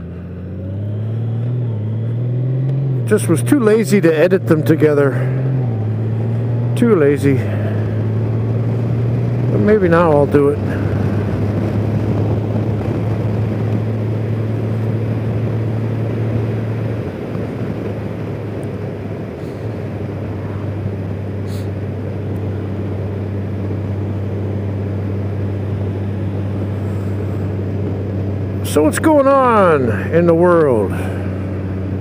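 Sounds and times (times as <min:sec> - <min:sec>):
motorcycle engine cruising: 0:00.0 - 0:32.0
wind and road rush: 0:00.0 - 0:32.0.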